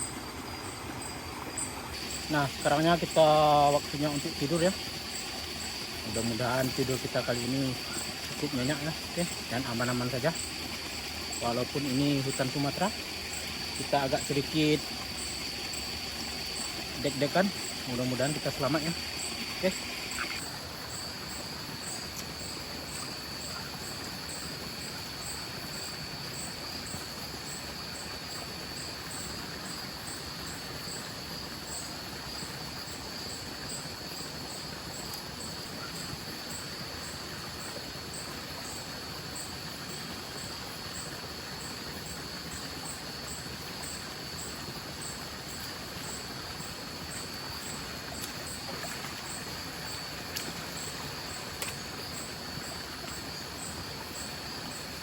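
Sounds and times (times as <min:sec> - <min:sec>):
insects pulsed chirping: 0:00.0 - 0:55.0
insects trilling: 0:00.0 - 0:55.0
stream water flowing: 0:00.0 - 0:55.0.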